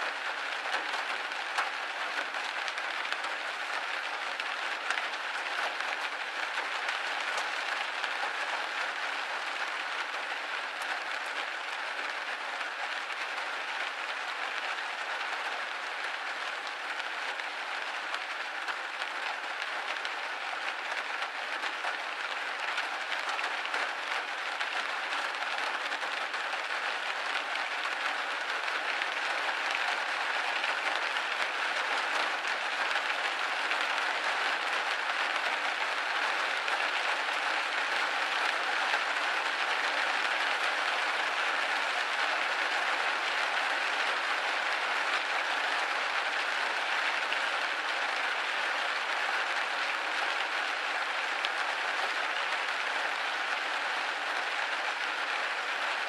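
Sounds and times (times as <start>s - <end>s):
rain pattering on window: 0.0s - 56.0s.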